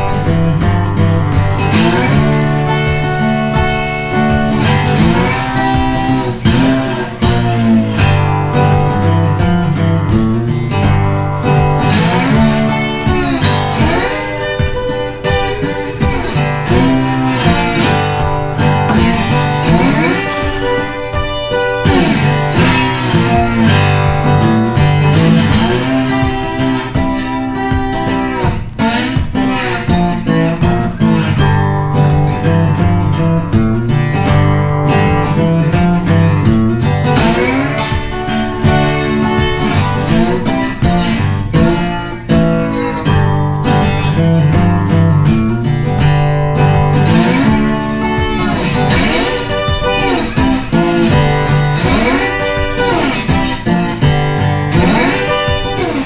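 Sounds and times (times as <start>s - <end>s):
plucked guitar music: 0.0s - 56.0s.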